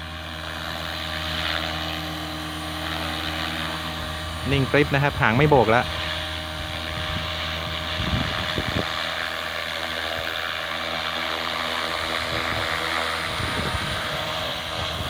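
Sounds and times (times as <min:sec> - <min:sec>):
rc helicopter rotor hum: 0:00.0 - 0:15.0.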